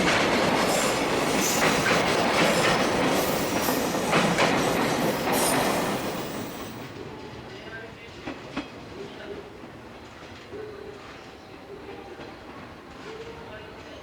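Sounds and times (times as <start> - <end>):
train wheels clickety-clack: 0.0 - 11.5.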